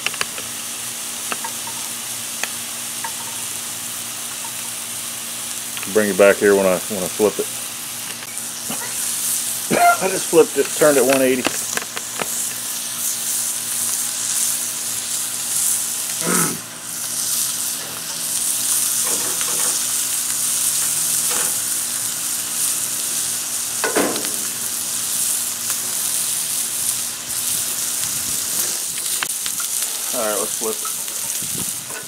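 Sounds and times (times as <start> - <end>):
steak sizzling on griddle pan: 0.0 - 32.0.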